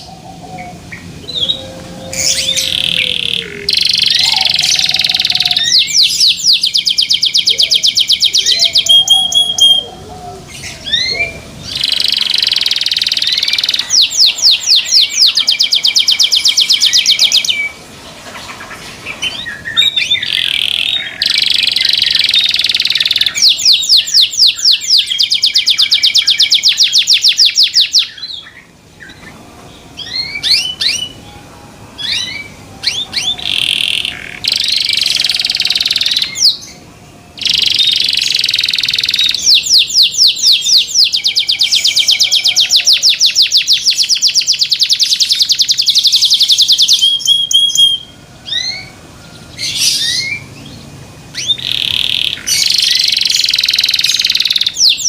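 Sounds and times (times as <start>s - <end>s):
canary chirps: 0.0s - 31.4s, 32.0s - 55.0s
canary singing trills: 0.0s - 55.0s.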